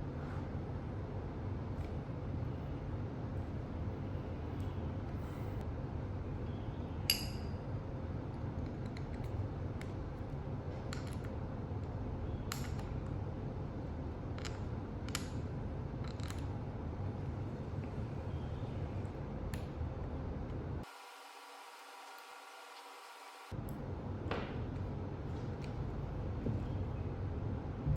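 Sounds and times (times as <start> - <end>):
steady low hum: 0.0 - 20.9, 23.3 - 27.9.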